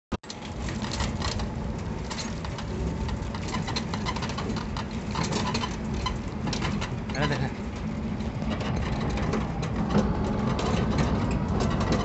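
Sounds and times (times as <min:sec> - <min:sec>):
auto-rickshaw engine rumble: 0:00.2 - 0:12.0
rattles and clicks: 0:00.2 - 0:12.0.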